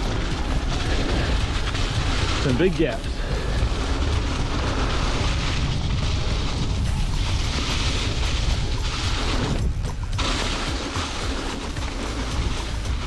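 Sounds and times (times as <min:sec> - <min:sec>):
wind buffeting microphone: 0:00.0 - 0:11.2
bike rattling: 0:00.0 - 0:13.0
constant low rumble: 0:00.0 - 0:13.0
tyres rolling on dirt: 0:00.0 - 0:13.0.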